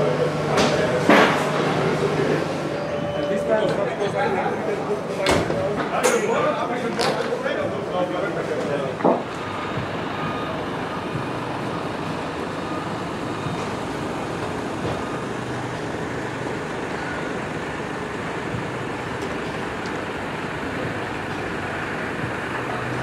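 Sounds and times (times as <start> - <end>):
constant low hum: 0.0 - 23.0
truck engines idling: 0.0 - 23.0.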